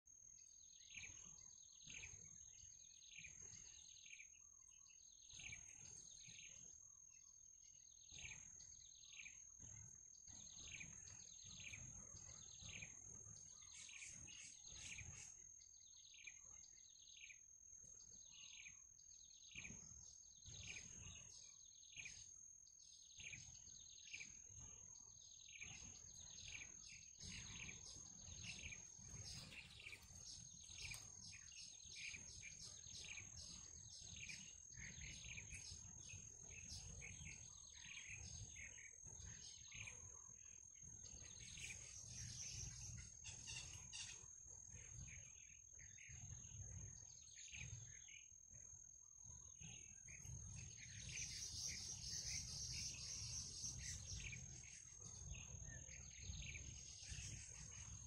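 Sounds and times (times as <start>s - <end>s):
birds chirping: 0.0s - 58.0s
high insect drone: 0.4s - 40.5s, 41.1s - 48.7s, 49.3s - 58.0s.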